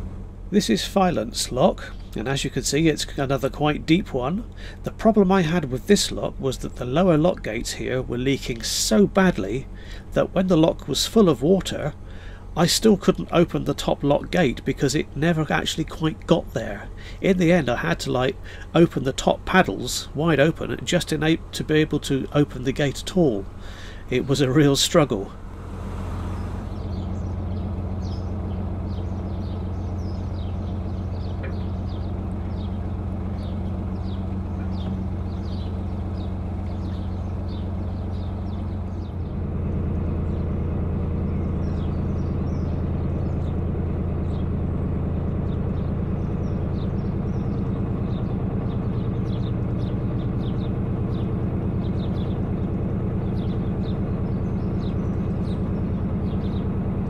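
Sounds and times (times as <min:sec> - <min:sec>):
birds chirping faintly: 0:00.0 - 0:57.0
boat diesel engine running: 0:00.0 - 0:57.0.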